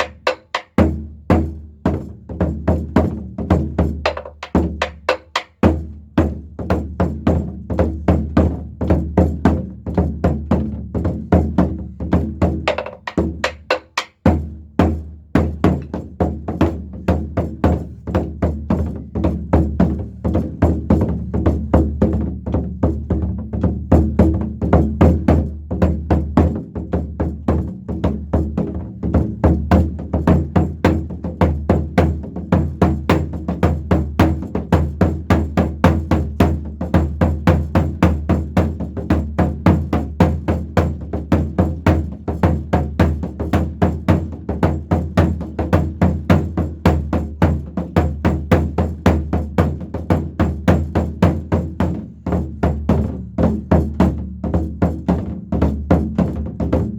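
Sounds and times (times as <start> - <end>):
drum struck rapidly with sticks: 0.0 - 17.7, 28.8 - 56.9.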